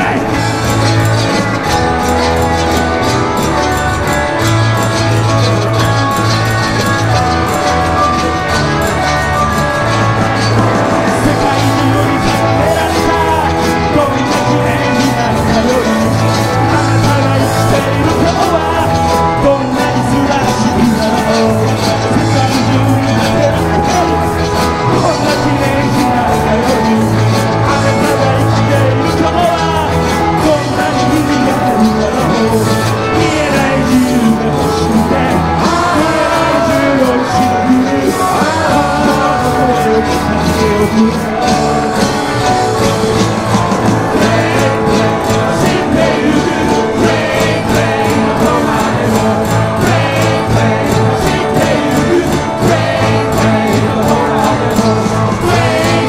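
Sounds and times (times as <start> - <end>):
man singing into a microphone: 0.0 - 2.1, 10.4 - 56.0
bass guitar: 0.0 - 56.0
drums: 0.0 - 56.0
electric guitars: 0.0 - 56.0.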